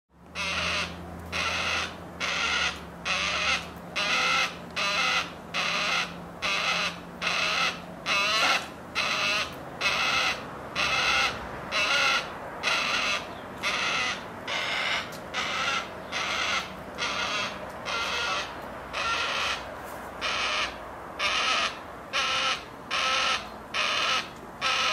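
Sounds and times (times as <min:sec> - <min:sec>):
cockatoo harsh rasping call: 0:00.4 - 0:24.9.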